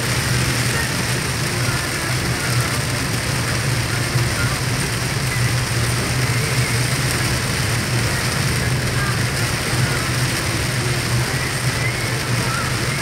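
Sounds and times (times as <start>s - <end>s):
engine and tyres on wet road: 0.0s - 13.0s
heavy rain on car roof: 0.0s - 13.0s.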